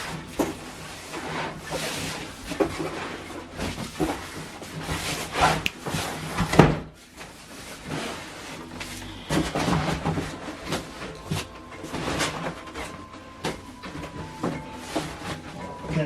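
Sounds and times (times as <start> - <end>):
packaging rustling and scraping: 0.0 - 16.0.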